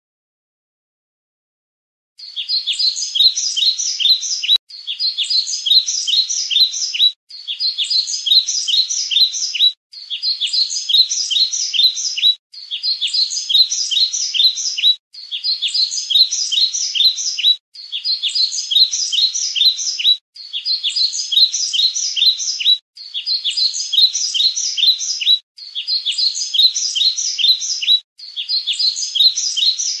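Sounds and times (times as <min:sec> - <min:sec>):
bird chirping: 0:02.2 - 0:30.0.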